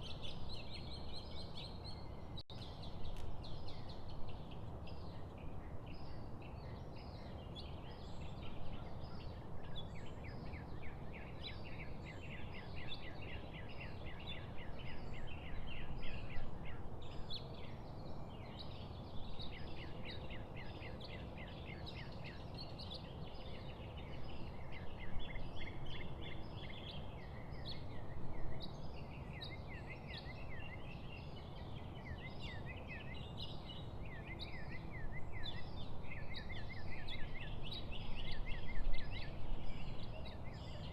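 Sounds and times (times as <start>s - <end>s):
low background noise: 0.0s - 40.9s
songbirds chirping and trilling: 0.0s - 40.9s.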